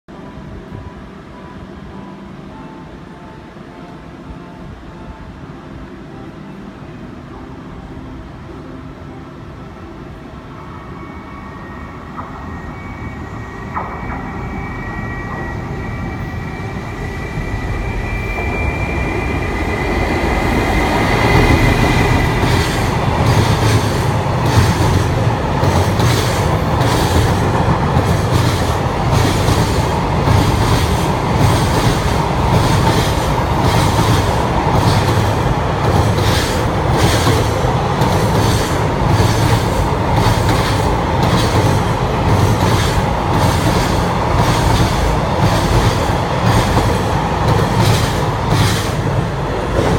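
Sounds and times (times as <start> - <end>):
faint high whine: 0.1 - 49.9
freight train passing: 0.1 - 49.9.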